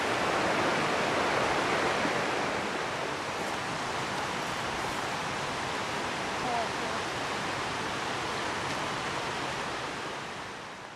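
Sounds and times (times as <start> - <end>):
mountain stream rushing: 0.0 - 10.9.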